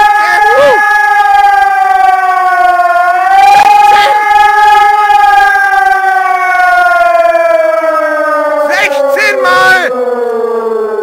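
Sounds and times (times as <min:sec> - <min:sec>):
siren howling: 0:00.0 - 0:11.0.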